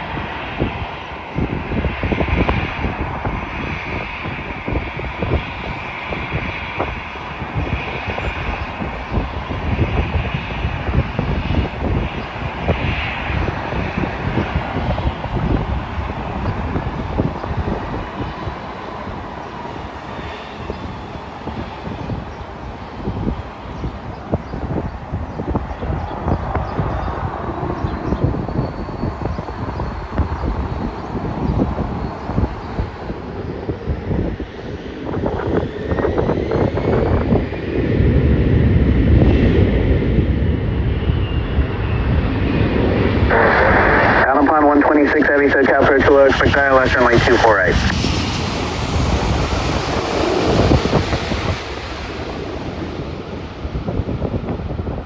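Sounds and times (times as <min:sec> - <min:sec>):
jet airliner engines rumbling: 0:00.0 - 0:55.0
wind buffeting microphone: 0:00.0 - 0:55.0.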